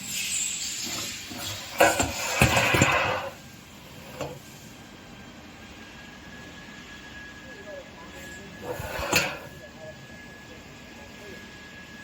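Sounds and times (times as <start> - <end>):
steady machine background: 0.0 - 12.0.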